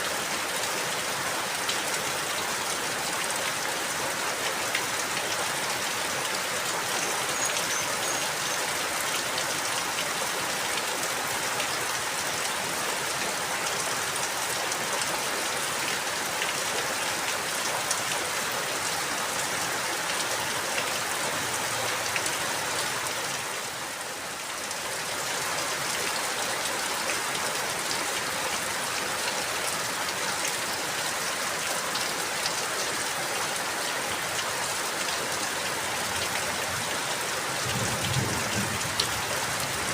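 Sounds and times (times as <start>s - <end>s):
rain drops pattering on a surface: 0.0s - 39.9s.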